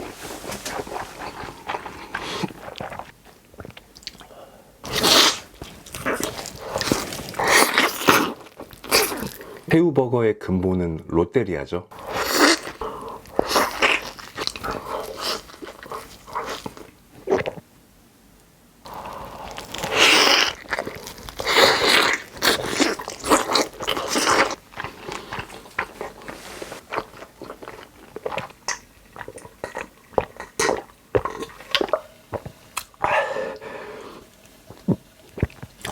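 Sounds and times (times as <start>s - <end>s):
person chewing with crunching: 0.0s - 9.7s, 11.9s - 17.6s, 18.9s - 35.9s.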